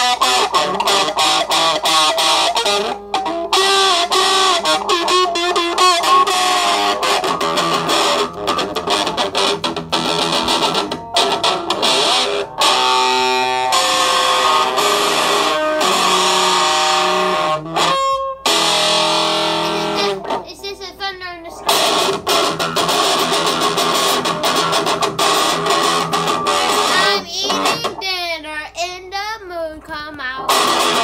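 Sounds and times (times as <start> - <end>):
distorted electric guitar: 0.0 - 20.7, 21.5 - 28.1, 30.4 - 31.0.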